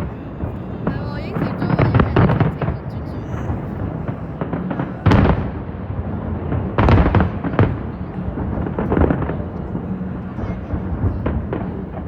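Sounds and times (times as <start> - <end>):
fireworks bangs: 0.0 - 12.0
low rumble of explosions: 0.0 - 12.0.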